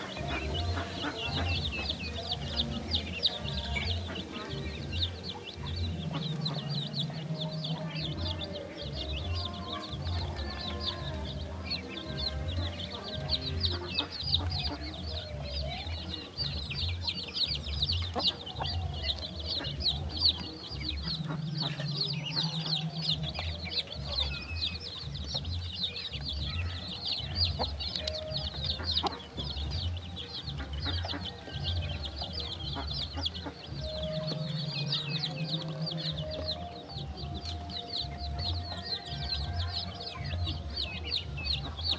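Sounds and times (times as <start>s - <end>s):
chicks and ducklings peeping: 0.0s - 41.9s
low clucking calls: 0.0s - 41.9s
low musical beat: 0.0s - 41.9s.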